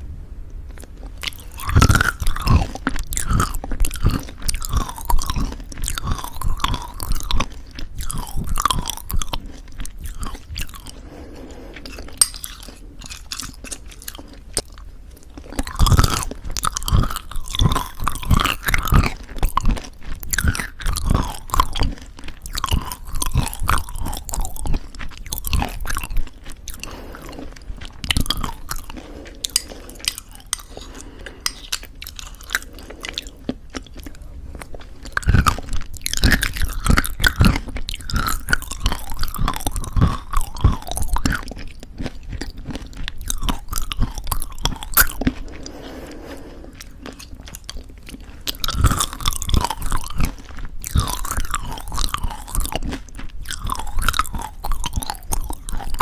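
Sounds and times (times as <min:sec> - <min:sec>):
crunchy chewing: 0:00.7 - 0:56.0.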